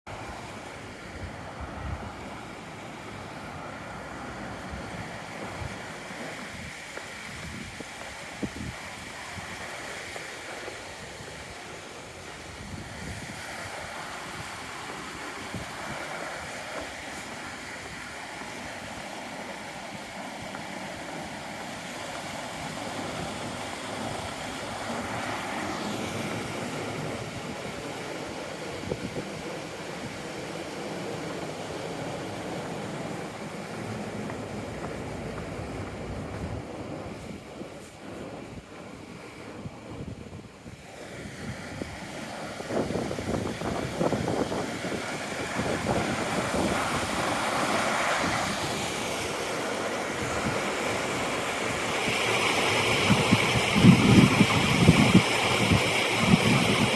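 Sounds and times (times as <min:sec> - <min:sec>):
steady rushing noise: 0:00.1 - 0:56.9
wind buffeting microphone: 0:00.1 - 0:56.9.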